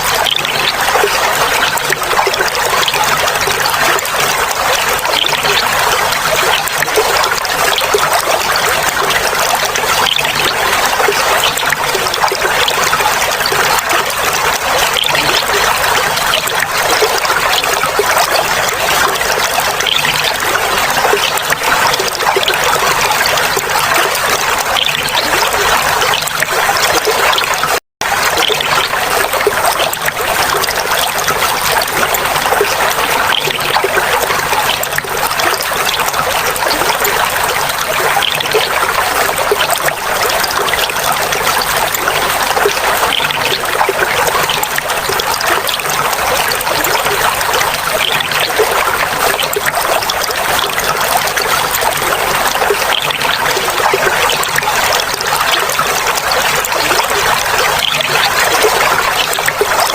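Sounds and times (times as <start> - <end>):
water babbling and trickling: 0.0 - 59.9.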